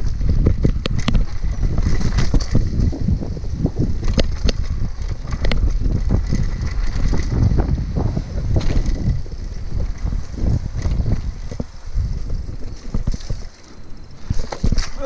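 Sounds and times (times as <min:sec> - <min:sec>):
bike rattling over bumps: 0:00.0 - 0:15.0
wind buffeting microphone: 0:00.0 - 0:15.0.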